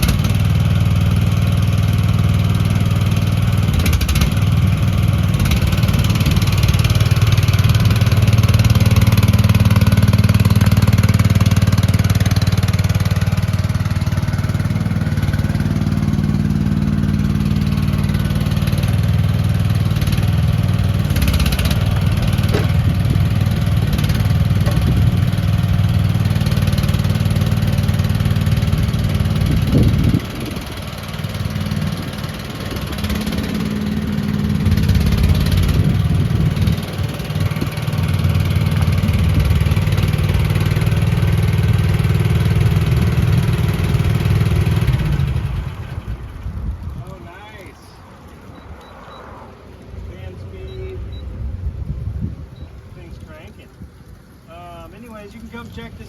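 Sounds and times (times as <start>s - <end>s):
mini excavator engine running: 0.0s - 47.0s.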